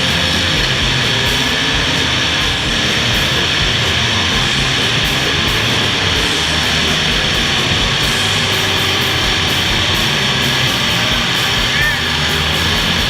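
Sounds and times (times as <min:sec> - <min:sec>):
car engines running: 0:00.0 - 0:13.0
rock music with electric guitar: 0:00.0 - 0:13.0.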